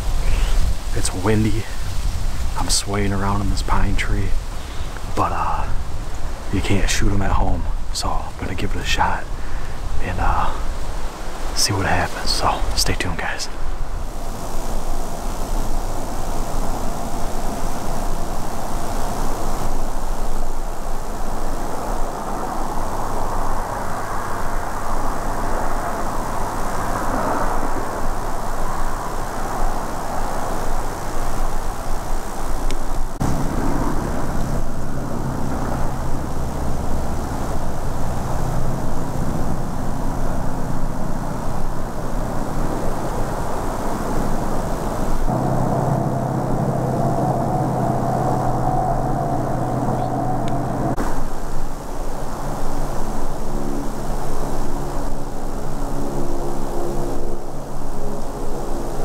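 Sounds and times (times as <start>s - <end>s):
distant engine drone: 0.0s - 59.0s
wind rushing through trees: 0.0s - 59.0s.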